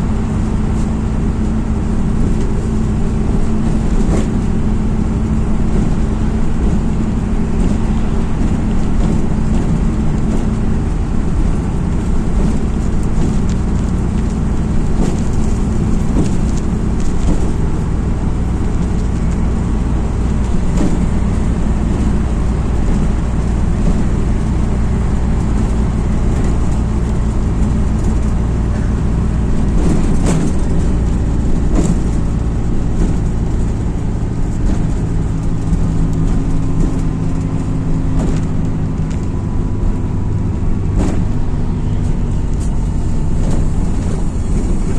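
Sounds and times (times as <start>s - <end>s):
bus diesel engine drone: 0.0s - 44.9s
road noise: 0.0s - 44.9s
short rattles or knocks: 0.7s - 44.9s.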